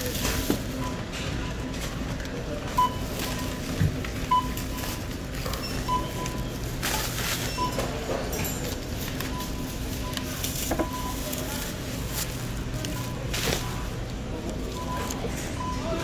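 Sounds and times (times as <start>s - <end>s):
store hum: 0.0s - 16.0s.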